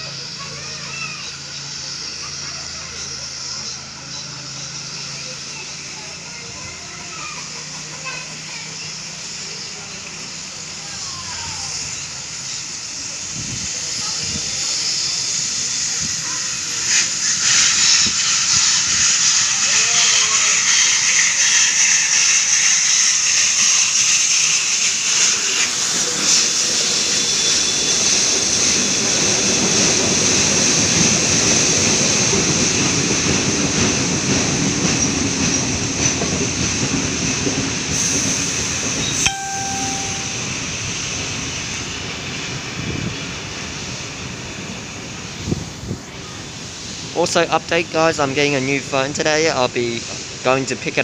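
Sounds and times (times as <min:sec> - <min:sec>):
steam locomotive hissing: 0:00.0 - 0:51.0
train wheels rumbling on rail: 0:00.0 - 0:51.0.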